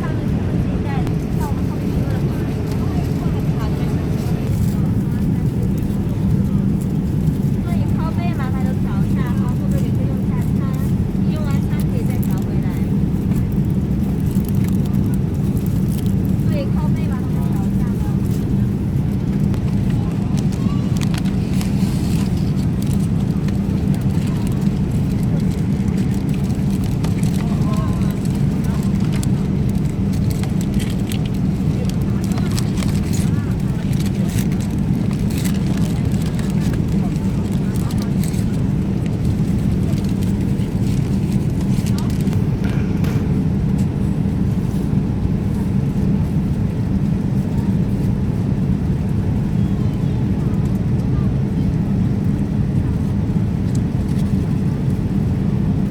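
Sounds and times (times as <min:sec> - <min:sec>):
jet cabin engine roar: 0:00.0 - 0:55.9.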